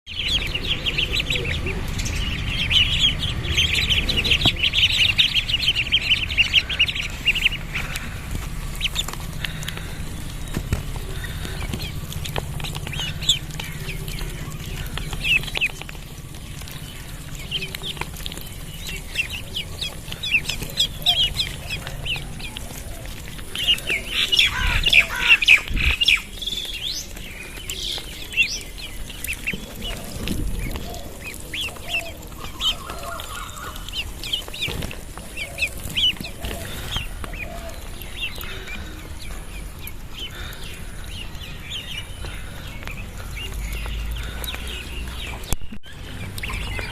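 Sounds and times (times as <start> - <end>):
ducklings peeping: 0.1 - 46.9.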